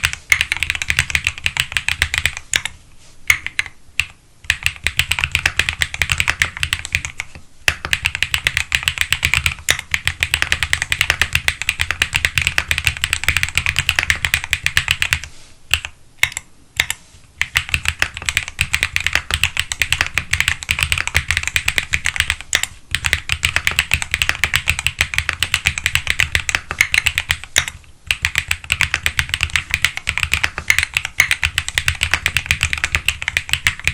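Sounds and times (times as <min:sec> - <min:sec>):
mechanical keyboard typing: 0:00.0 - 0:33.9.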